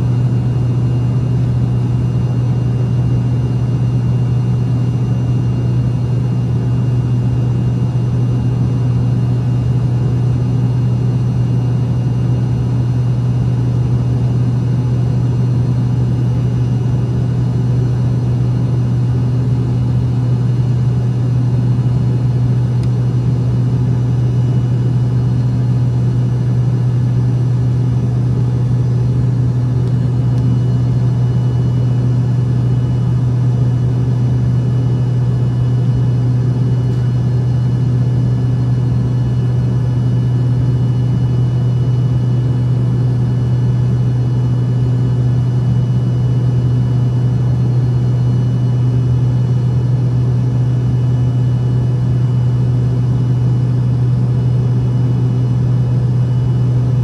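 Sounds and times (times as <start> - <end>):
jet airliner drone: 0.0 - 57.0.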